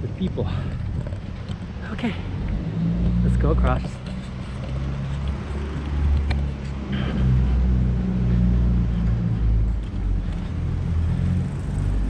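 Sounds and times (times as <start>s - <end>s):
city street noise rumble: 0.0s - 12.0s.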